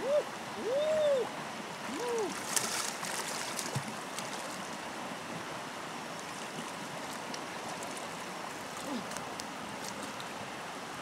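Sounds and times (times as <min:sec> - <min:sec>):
flowing river water: 0:00.0 - 0:11.0.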